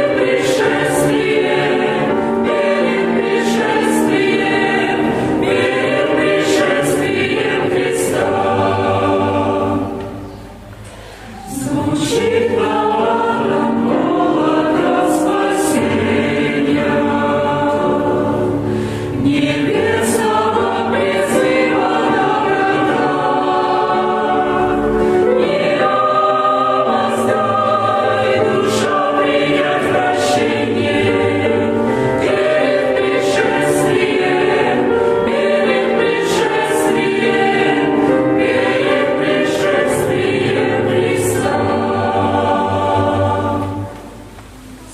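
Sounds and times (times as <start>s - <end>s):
choir singing a hymn: 0.0s - 44.9s.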